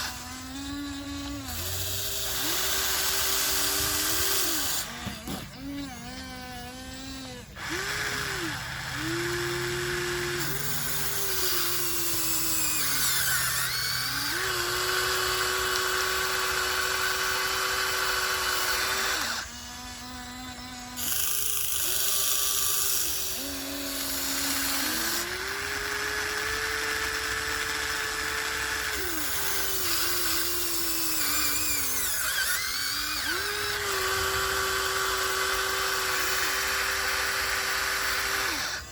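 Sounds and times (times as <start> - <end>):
toy excavator motors whining: 0.0 - 38.9.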